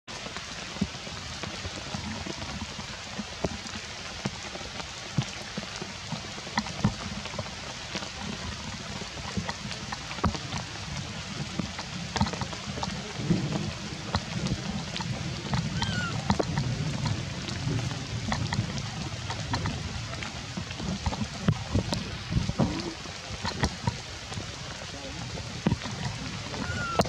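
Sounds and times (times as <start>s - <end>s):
rain on rocks and leaves: 0.1s - 27.0s
sharp drips close by: 0.1s - 27.0s.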